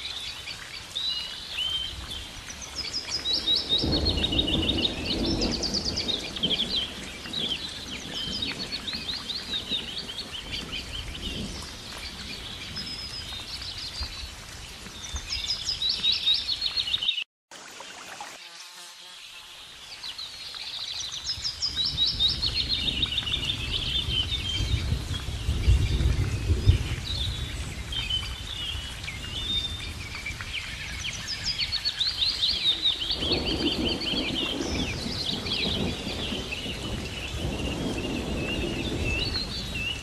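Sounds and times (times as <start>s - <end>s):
small songbirds chirping and trilling: 0.0s - 17.2s, 19.3s - 40.0s.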